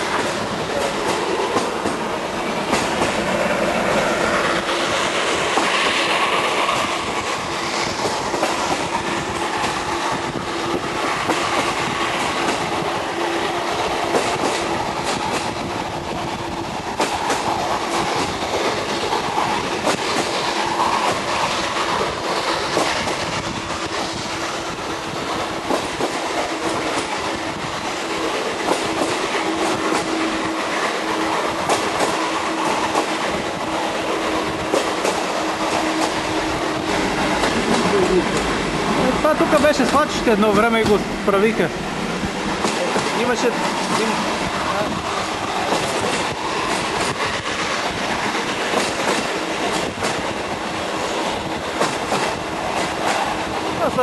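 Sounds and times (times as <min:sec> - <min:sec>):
wheels clacking over rail joints: 0:00.0 - 0:15.7, 0:25.4 - 0:41.2, 0:41.8 - 0:53.8
train rolling rumble: 0:00.0 - 0:54.0.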